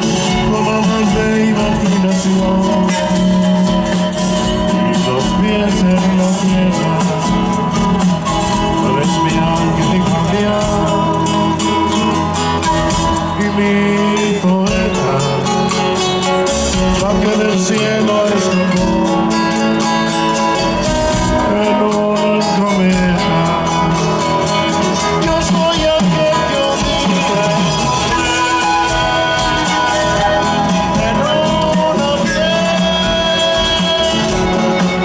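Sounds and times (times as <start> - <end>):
guitars strummed: 0.0 - 35.0
held melody notes: 0.0 - 35.0
person singing: 0.0 - 35.0.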